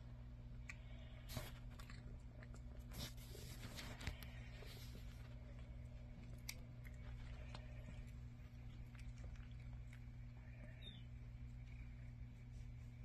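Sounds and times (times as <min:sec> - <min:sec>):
steady low hum: 0:00.0 - 0:13.0
cat chewing: 0:00.6 - 0:12.9.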